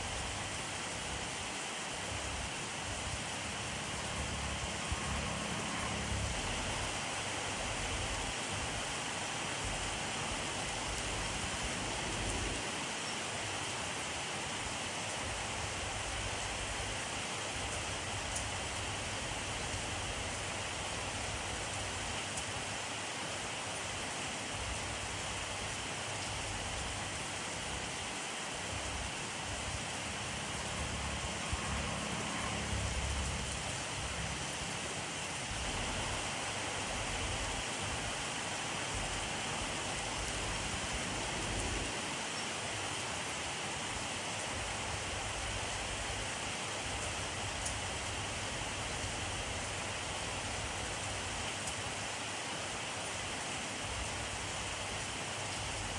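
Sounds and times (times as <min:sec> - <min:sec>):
rain hissing: 0:00.0 - 0:55.9.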